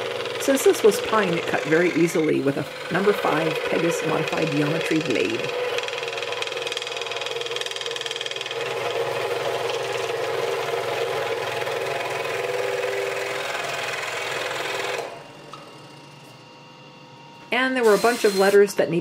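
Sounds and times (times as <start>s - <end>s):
scroll saw buzzing: 0.0s - 19.0s.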